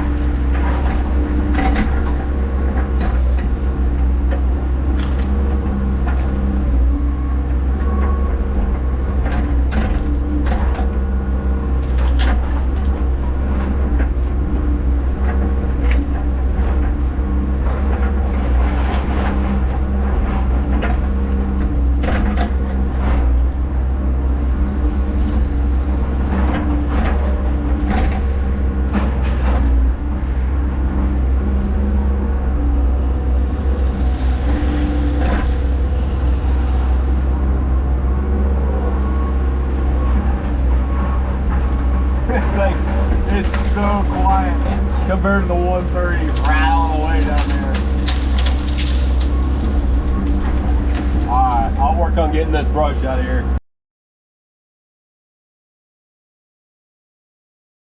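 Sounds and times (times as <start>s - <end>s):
excavator diesel engine running: 0.0s - 53.6s.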